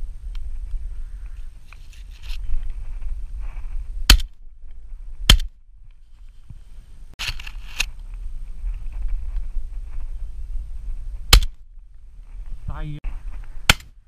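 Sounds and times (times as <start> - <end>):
wind on microphone: 0.0 - 7.2, 7.8 - 13.7.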